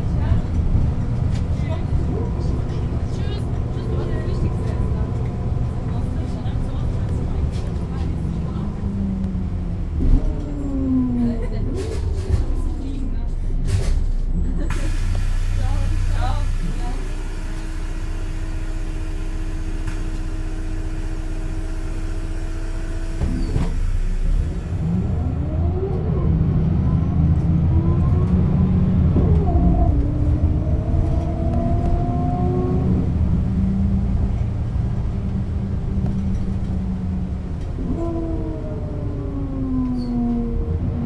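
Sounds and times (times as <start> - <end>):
bus engine idling and accelerating: 0.0 - 41.0.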